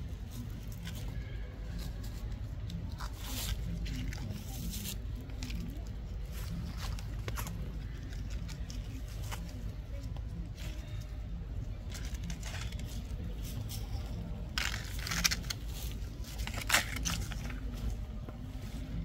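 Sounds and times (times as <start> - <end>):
dry leaves crackling: 0.3 - 11.0, 11.9 - 18.0.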